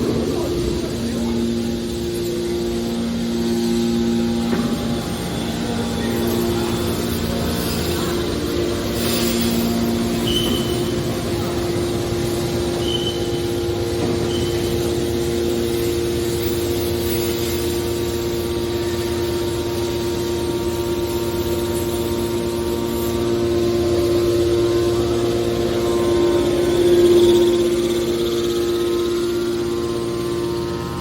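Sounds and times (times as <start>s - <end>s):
hydraulic pump whine: 0.0s - 31.0s.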